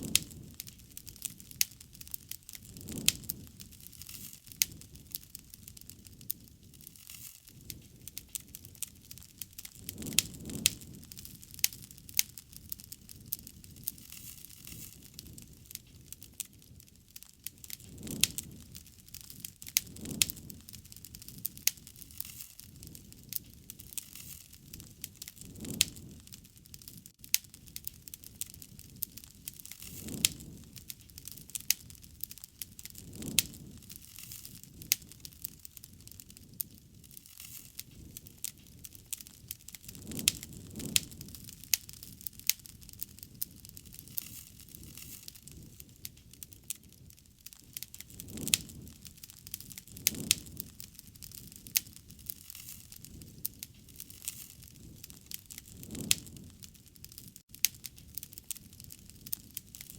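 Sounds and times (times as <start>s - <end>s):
flame whooshes: 0.0s - 47.1s, 47.7s - 57.4s
campfire crackling: 0.0s - 59.9s.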